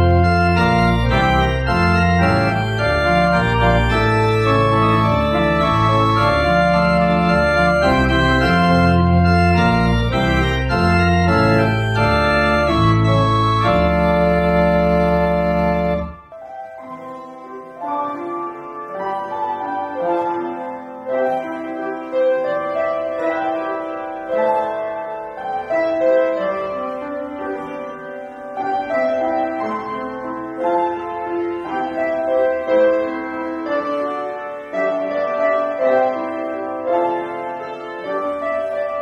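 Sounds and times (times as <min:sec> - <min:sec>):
church organ playing chords: 0:00.0 - 0:39.0
soft music: 0:00.0 - 0:39.0.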